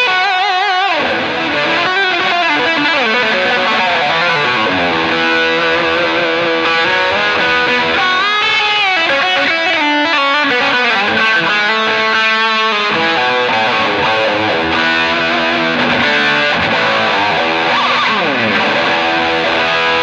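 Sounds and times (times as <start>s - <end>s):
overdriven electric guitar: 0.0s - 20.0s.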